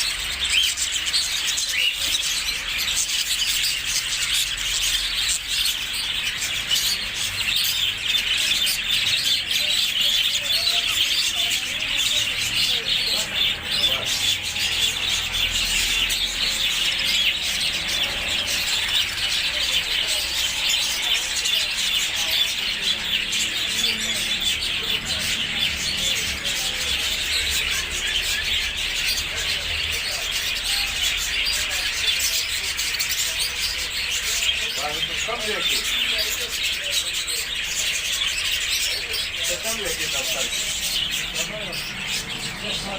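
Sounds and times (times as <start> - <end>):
flock of parrots chattering: 0.0 - 42.9.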